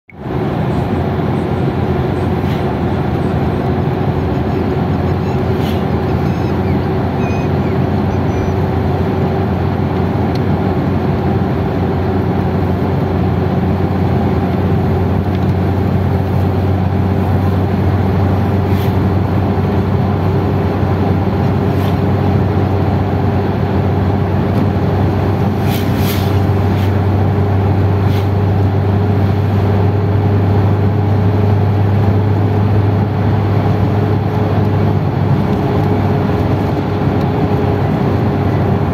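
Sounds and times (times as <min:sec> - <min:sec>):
car cabin road noise: 0:00.1 - 0:38.9.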